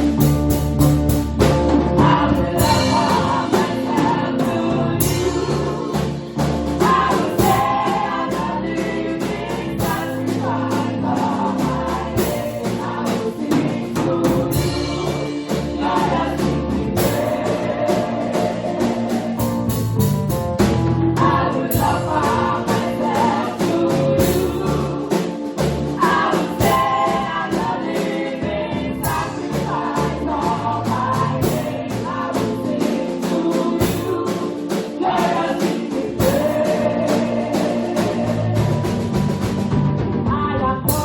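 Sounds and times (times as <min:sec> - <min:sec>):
gospel choir singing: 0:00.0 - 0:41.0
regular drum beat: 0:00.0 - 0:41.0
steady bass line: 0:00.0 - 0:41.0.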